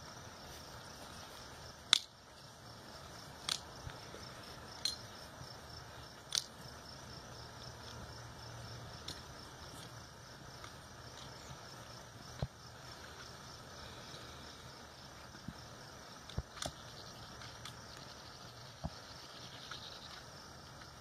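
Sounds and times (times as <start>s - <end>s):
faint insect chirring: 0.0s - 21.0s.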